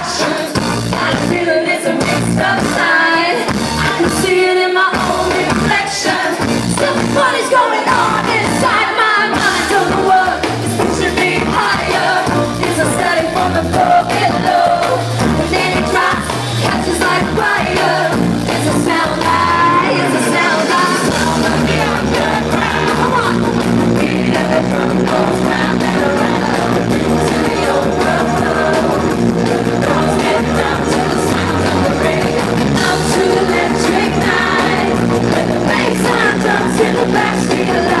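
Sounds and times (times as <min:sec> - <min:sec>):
live pop-rock band: 0:00.0 - 0:38.0
woman singing: 0:00.0 - 0:38.0.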